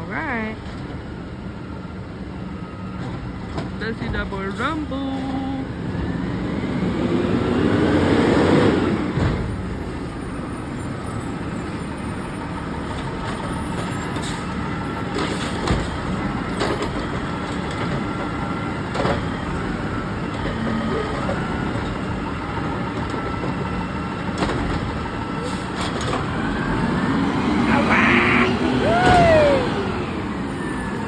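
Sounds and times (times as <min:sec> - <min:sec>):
garbage truck engine revving: 0:05.7 - 0:31.0.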